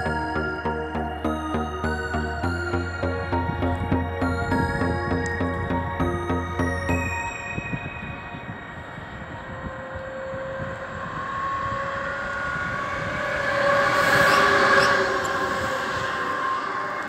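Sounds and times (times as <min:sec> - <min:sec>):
electric locomotive passing: 0:00.0 - 0:17.0.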